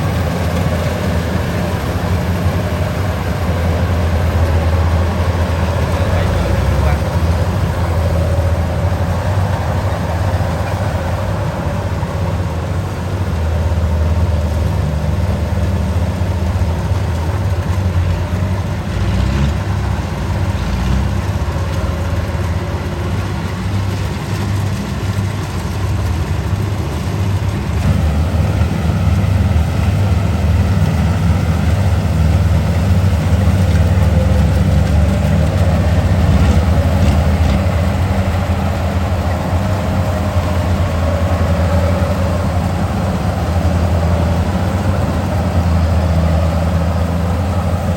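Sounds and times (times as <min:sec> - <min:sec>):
diesel engine droning: 0:00.0 - 0:47.9.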